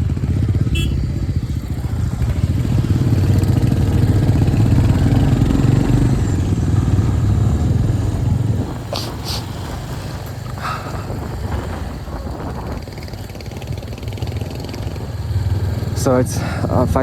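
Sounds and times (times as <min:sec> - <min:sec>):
motorcycle engine pulsing: 0:00.0 - 0:17.0.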